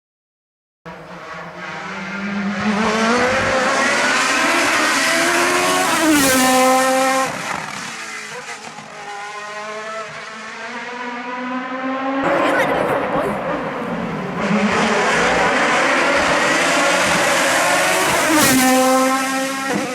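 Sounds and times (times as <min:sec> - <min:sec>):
racing engine at high revs passing: 0:00.9 - 0:19.9.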